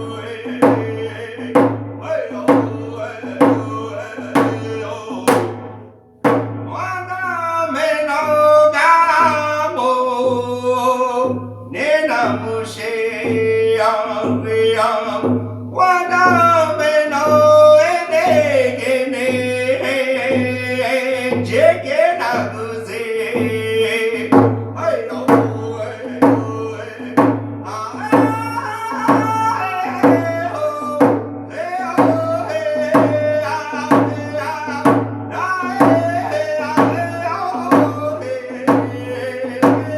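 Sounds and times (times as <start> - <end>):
man singing: 0.0 - 39.9
steady drumbeat: 0.0 - 39.9.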